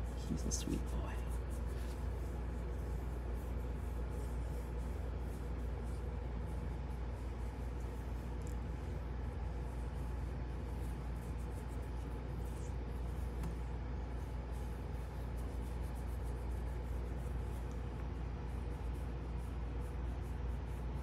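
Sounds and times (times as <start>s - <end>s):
fingers rustling through fur: 0.0s - 21.0s.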